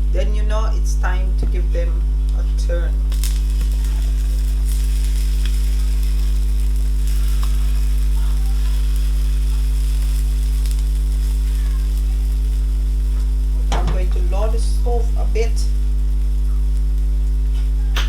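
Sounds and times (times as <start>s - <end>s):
electrical mains hum: 0.0s - 18.0s
faint crackles: 2.1s - 18.0s
batter sizzling in oil: 2.9s - 18.0s.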